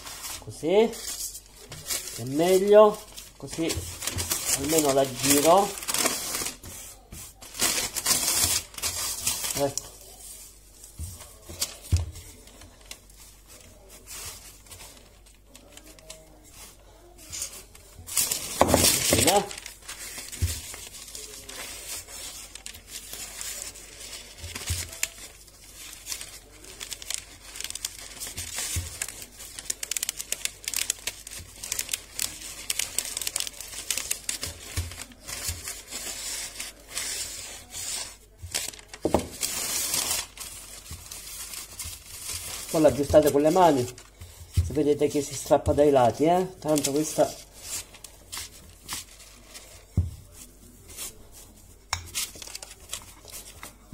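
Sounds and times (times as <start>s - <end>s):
baking paper crinkling: 0.0s - 53.9s.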